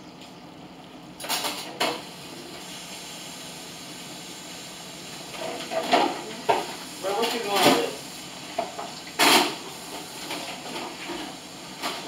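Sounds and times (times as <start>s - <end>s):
kitchen noise hissing: 1.2s - 12.0s.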